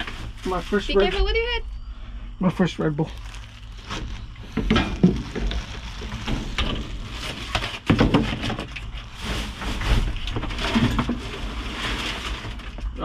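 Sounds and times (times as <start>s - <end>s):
plastic and cardboard rustling: 0.0s - 1.3s, 3.0s - 13.0s.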